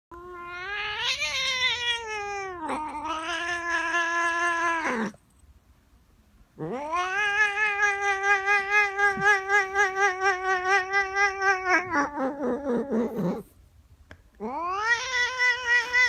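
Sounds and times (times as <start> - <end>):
cat yowling: 0.1 - 5.2, 6.6 - 13.5, 14.4 - 16.0.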